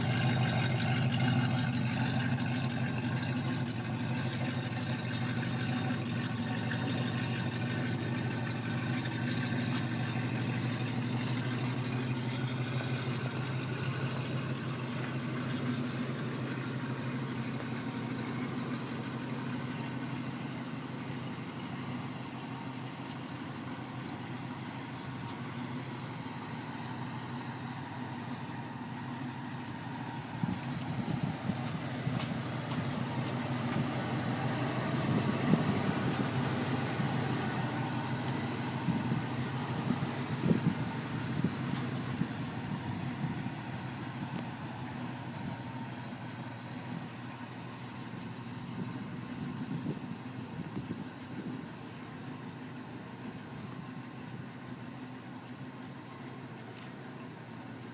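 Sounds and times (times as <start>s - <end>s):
car engine idling: 0.0s - 57.9s.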